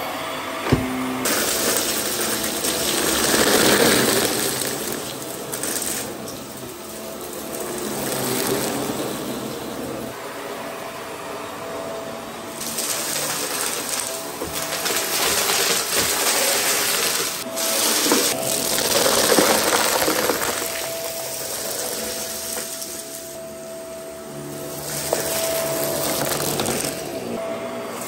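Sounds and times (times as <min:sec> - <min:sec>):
vacuum cleaner whine: 0:00.0 - 0:28.0
debris rattling through vacuum: 0:00.6 - 0:10.2, 0:12.6 - 0:27.4.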